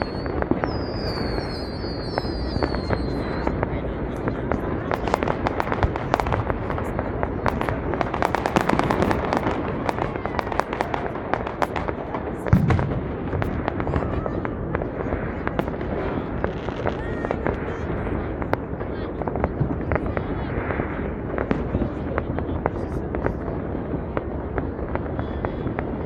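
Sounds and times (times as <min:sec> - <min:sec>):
deep firework boom: 0:00.0 - 0:26.0
firecrackers crackling and popping: 0:00.0 - 0:26.0.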